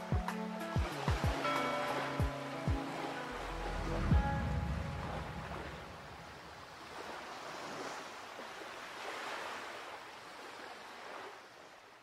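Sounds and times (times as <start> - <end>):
ocean waves rushing: 0.0 - 11.4.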